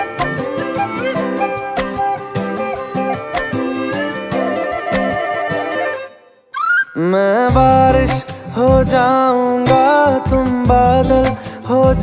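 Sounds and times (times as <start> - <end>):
instrumental film song music: 0.0 - 12.0.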